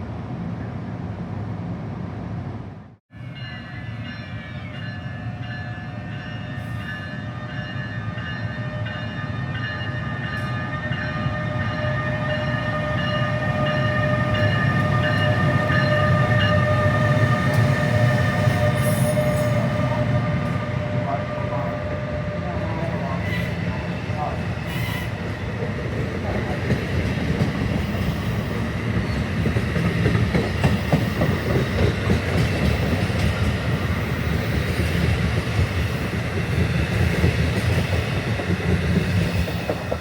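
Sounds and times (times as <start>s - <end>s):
passenger train passing: 0.0s - 40.0s.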